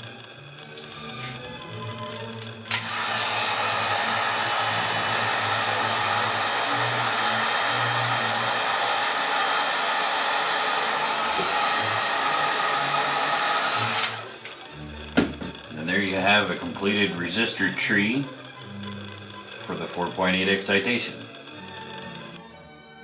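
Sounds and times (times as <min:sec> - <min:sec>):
heat gun blowing: 0:00.0 - 0:22.4.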